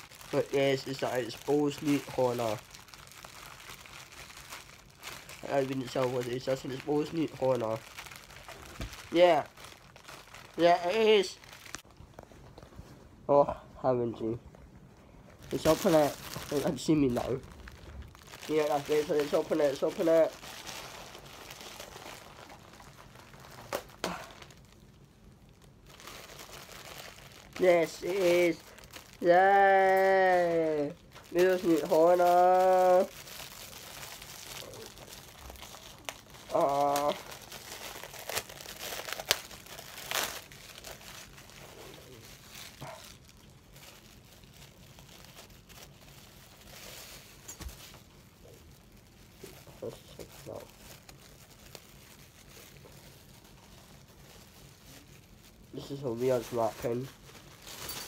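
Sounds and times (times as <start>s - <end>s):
plastic packaging rustling: 0.0s - 12.9s, 14.9s - 58.0s.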